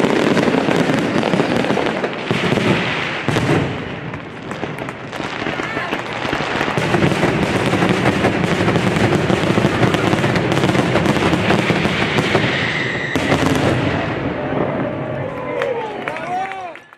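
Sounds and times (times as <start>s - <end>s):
fireworks bangs and crackles: 0.0s - 16.6s.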